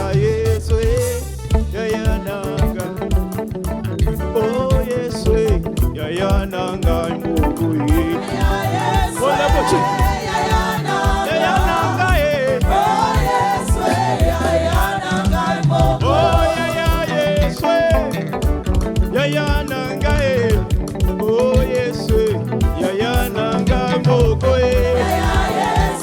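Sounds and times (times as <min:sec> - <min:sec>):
bass and drum beat: 0:00.0 - 0:26.0
gospel band playing dance music: 0:00.0 - 0:26.0
singing: 0:04.4 - 0:18.5, 0:19.1 - 0:26.0.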